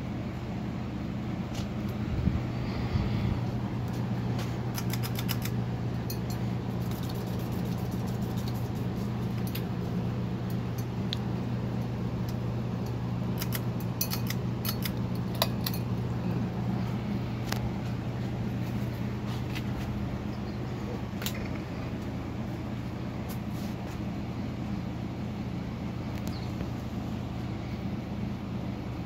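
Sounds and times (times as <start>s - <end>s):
ceiling fan motor hum: 0.0s - 29.0s.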